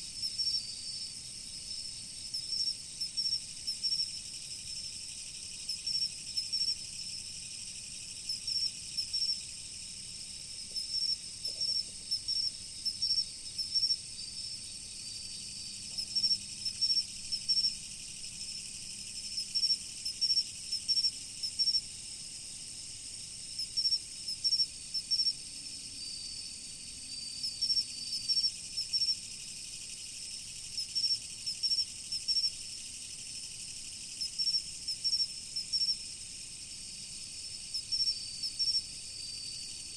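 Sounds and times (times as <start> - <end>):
insect chirps in quick pulses: 0.0 - 39.9
insect trill chorus: 0.0 - 39.9.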